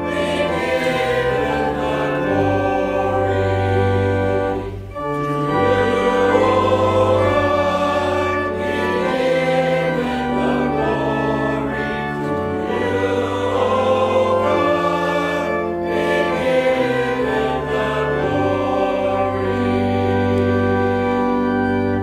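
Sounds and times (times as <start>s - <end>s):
church choir singing: 0.0s - 22.0s
organ accompaniment: 0.0s - 22.0s.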